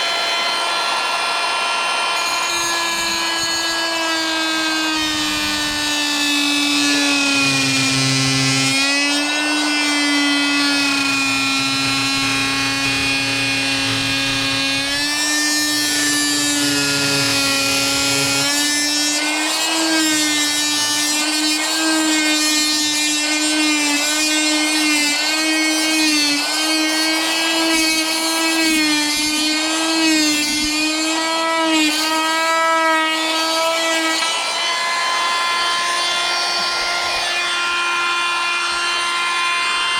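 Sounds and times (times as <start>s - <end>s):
oscillating multi-tool cutting stone: 0.0s - 39.9s.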